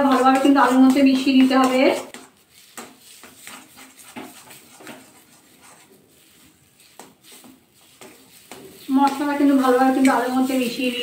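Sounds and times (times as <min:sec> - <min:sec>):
metal spatula scraping a pan: 0:00.0 - 0:11.0.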